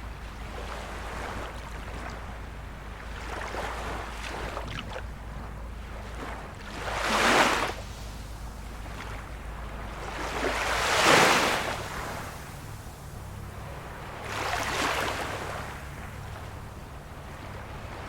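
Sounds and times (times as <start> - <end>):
small waves washing on shore: 0.0 - 18.0.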